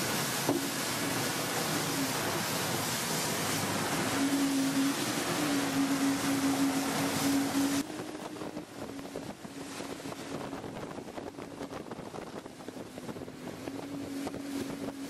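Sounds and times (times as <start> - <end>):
boat engines droning: 0.0 - 15.0
water rushing past boat: 0.0 - 15.0
wind buffeting microphone: 0.8 - 15.0.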